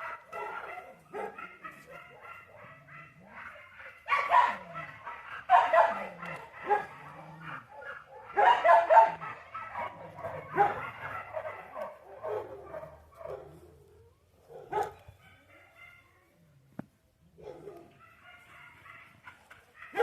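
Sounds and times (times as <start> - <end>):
dog barking and yipping: 0.0 - 13.7, 14.4 - 16.1, 17.4 - 20.0.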